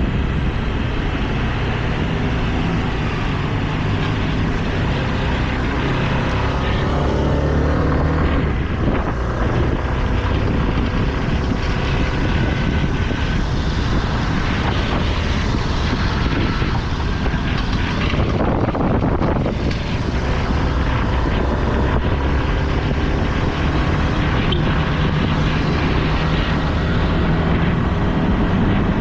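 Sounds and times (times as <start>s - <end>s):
road noise: 0.0s - 29.0s
strong wind: 0.0s - 29.0s.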